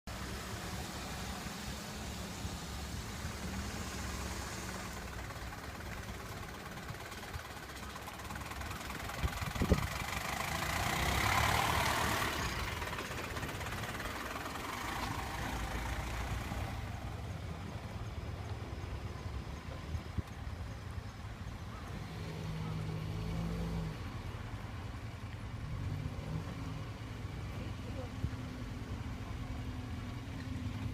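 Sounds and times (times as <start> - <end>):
diesel engine idling: 0.1 - 30.9.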